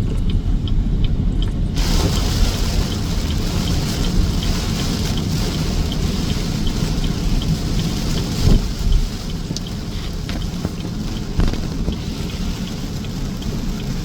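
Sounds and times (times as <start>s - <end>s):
light regular ticking: 0.0s - 14.0s
steady low rumble: 0.0s - 14.0s
heavy rain: 1.6s - 14.0s.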